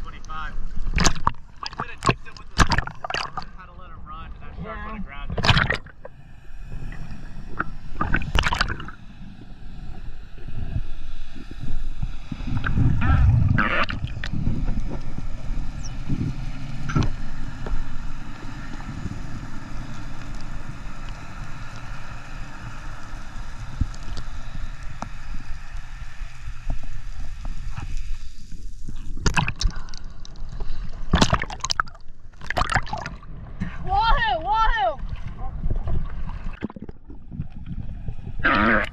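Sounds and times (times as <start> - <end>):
water splashes: 0.0 - 3.8, 4.4 - 38.9
underwater sloshing and gurgling: 0.0 - 38.9.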